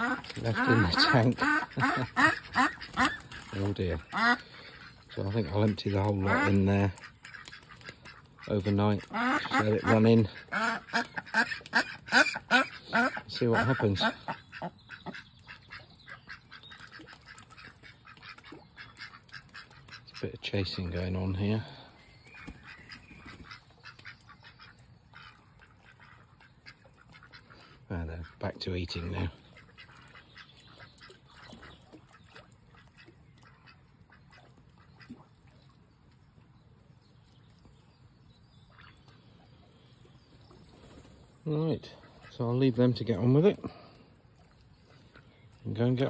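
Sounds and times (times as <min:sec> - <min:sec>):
ducks quacking: 0:00.0 - 0:35.4, 0:38.6 - 0:39.4, 0:41.5 - 0:44.0.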